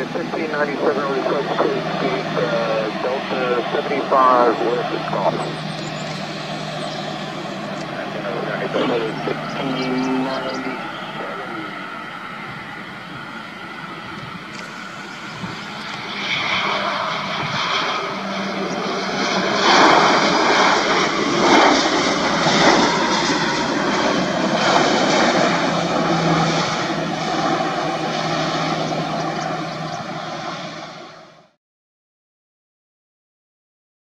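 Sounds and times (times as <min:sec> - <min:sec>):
jet engines in reverse thrust: 0:00.0 - 0:31.6.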